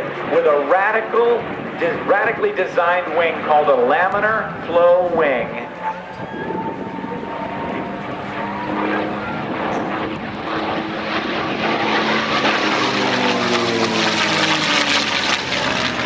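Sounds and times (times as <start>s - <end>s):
propeller plane flying past: 0.0s - 16.0s.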